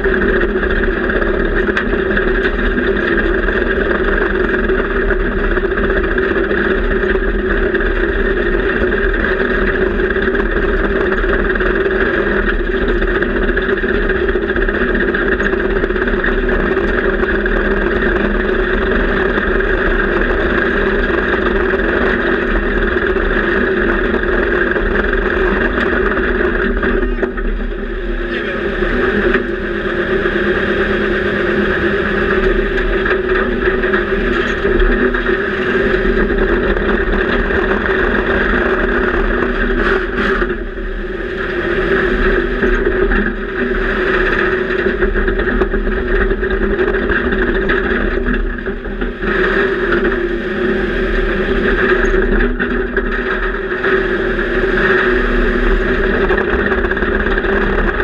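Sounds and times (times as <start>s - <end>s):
tank engine running: 0.0s - 58.0s.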